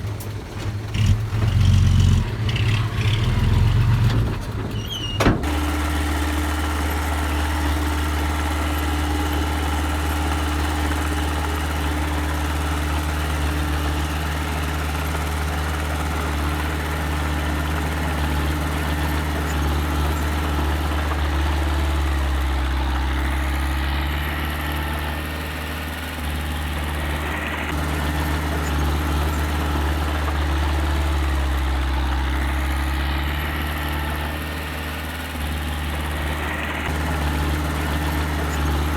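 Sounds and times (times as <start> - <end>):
earthmoving machine engine humming: 5.3 - 38.9.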